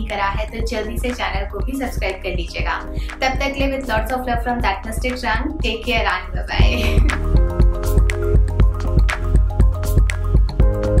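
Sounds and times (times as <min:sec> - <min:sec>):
background music with bass beat: 0:00.0 - 0:11.0.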